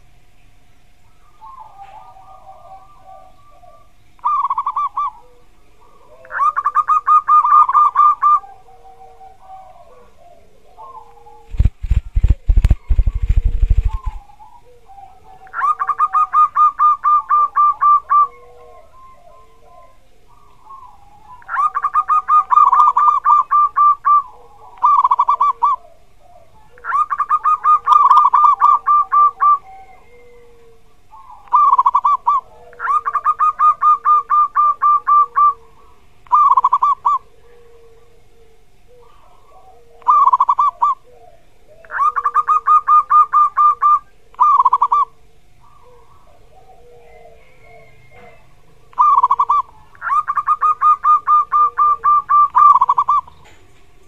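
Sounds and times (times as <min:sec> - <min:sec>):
dove cooing: 0:01.0 - 0:54.0.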